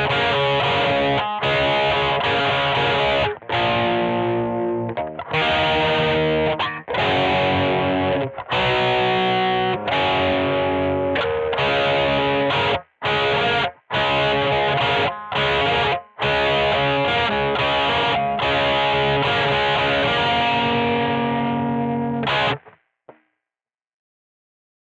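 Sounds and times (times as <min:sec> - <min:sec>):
distorted electric guitar chords: 0:00.0 - 0:22.7.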